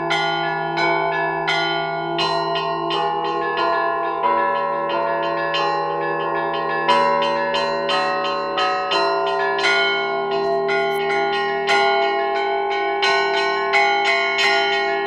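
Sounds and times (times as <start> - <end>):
large bells ringing: 0.0 - 15.0
small church bells struck quickly: 0.0 - 15.0.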